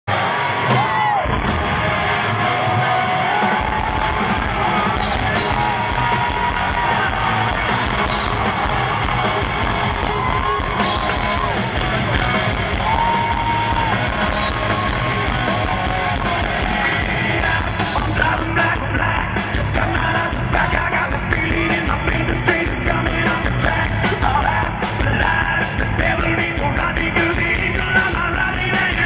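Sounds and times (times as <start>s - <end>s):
rock band playing live: 0.1s - 29.0s.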